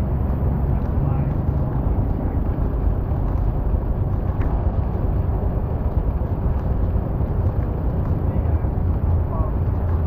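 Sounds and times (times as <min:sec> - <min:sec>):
car driving on wet road: 0:00.0 - 0:10.0.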